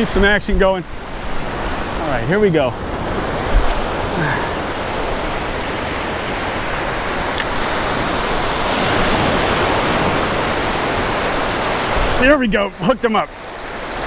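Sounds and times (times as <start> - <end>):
ocean surf rushing: 0.0 - 14.0
wave breaking: 1.0 - 14.0.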